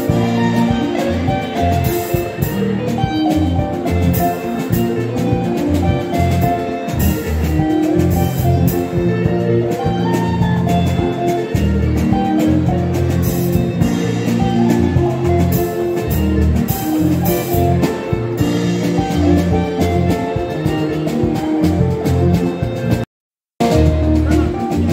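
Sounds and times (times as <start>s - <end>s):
bass line: 0.0s - 23.0s, 23.6s - 24.9s
electric guitar solo: 0.0s - 23.0s
drum kit: 0.0s - 24.9s
keyboard: 0.0s - 24.9s.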